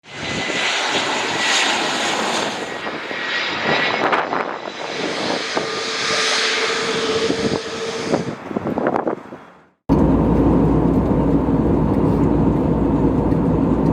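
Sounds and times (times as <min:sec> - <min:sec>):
jet airliner engines rushing: 0:00.0 - 0:13.9.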